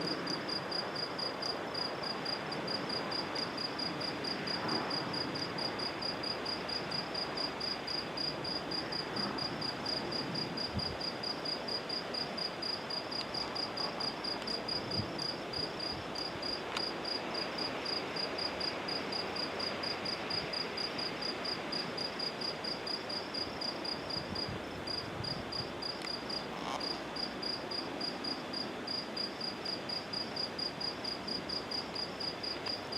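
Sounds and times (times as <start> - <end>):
cricket chirping: 0.0 - 32.9
steady background hiss: 0.0 - 32.9.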